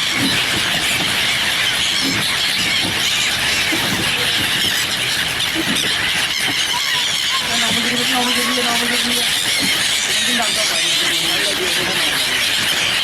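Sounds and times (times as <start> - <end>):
flock of birds squealing: 0.0 - 13.0.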